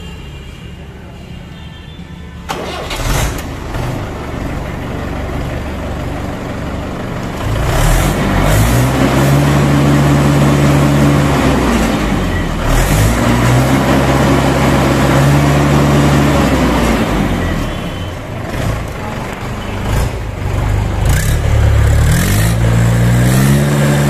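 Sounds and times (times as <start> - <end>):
tractor diesel engine starting: 2.4 - 24.0
tractor engine idling and revving: 2.4 - 24.0.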